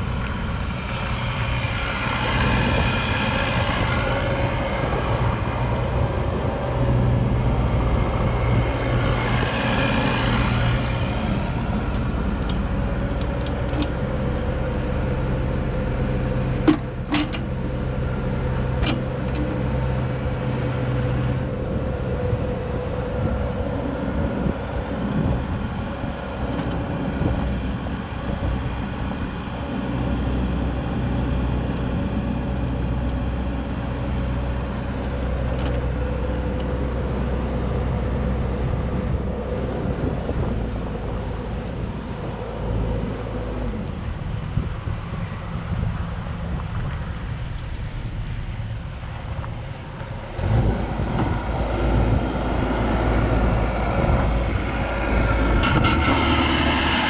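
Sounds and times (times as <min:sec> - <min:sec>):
excavator diesel engine running: 0:00.0 - 0:46.5, 0:49.1 - 0:57.0.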